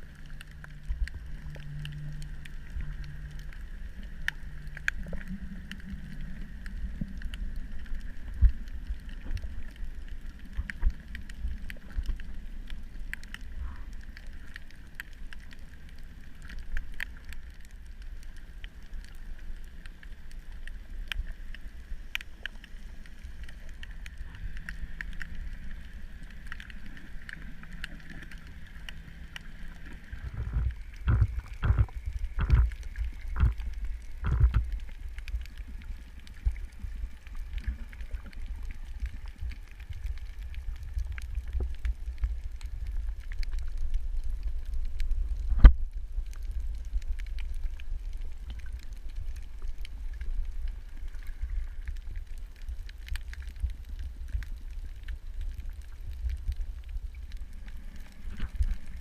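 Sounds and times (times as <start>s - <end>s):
sharp clicks and crackles: 0.0s - 59.0s
underwater rumble of moving water: 0.0s - 59.0s.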